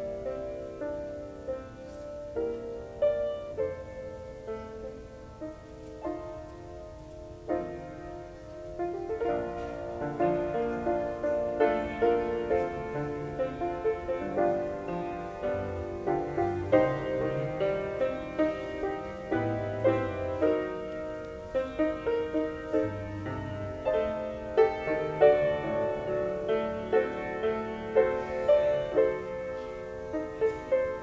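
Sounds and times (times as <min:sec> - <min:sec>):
slow piano chords: 0:00.0 - 0:31.0.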